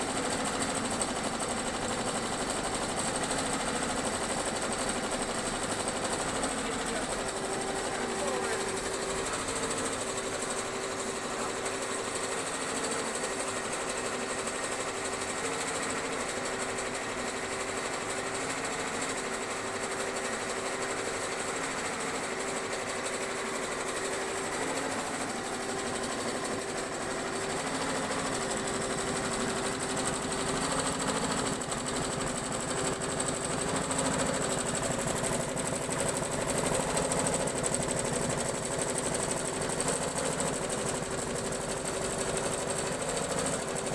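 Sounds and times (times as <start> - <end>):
embroidery machine stitching: 0.0 - 43.9.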